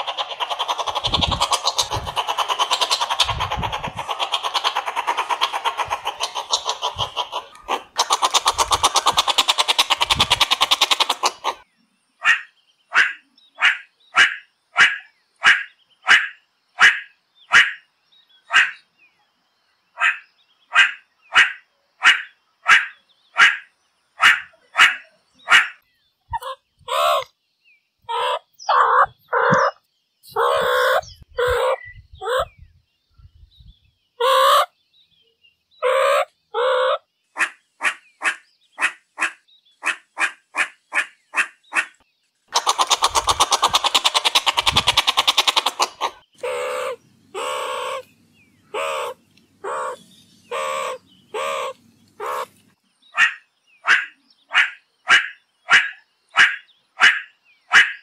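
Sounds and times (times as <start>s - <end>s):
meerkat calls: 0.0s - 11.6s, 12.2s - 17.8s, 18.5s - 18.8s, 20.0s - 27.3s, 28.1s - 32.6s, 34.2s - 34.7s, 35.8s - 48.1s, 48.7s - 58.0s.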